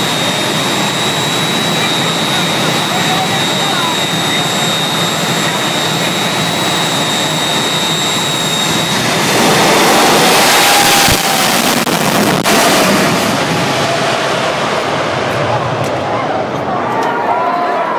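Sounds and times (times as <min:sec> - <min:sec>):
jet engines roaring: 0:00.0 - 0:17.9.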